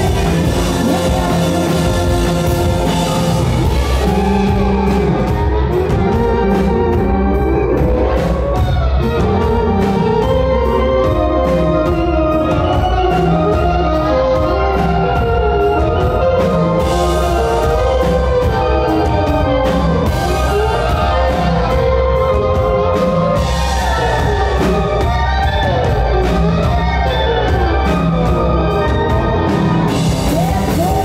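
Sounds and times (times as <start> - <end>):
drums: 0.0 - 31.0
electric organ chords: 0.0 - 31.0
heavy low end bass: 0.0 - 31.0.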